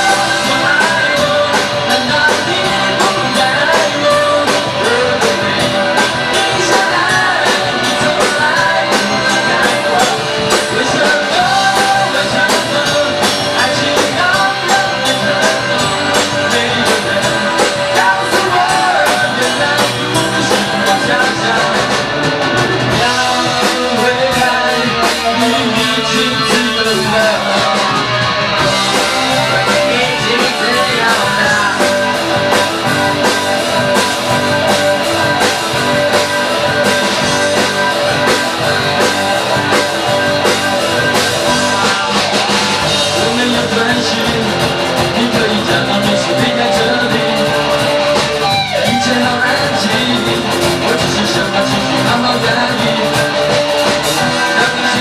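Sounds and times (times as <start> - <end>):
rock band with guitar: 0.0 - 55.0.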